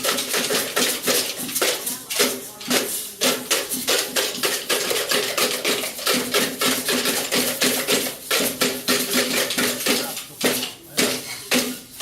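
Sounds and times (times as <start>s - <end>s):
rapid clattering knocks and clinks: 0.0s - 12.0s.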